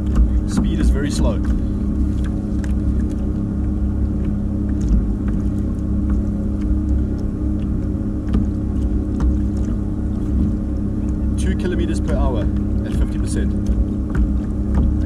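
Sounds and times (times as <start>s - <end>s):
electric thruster humming: 0.0s - 15.0s
low rumble: 0.0s - 15.0s.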